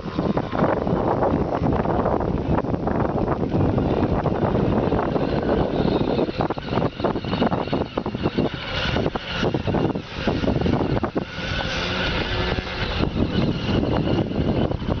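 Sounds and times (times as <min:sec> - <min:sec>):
small atv engine running: 0:00.0 - 0:15.0.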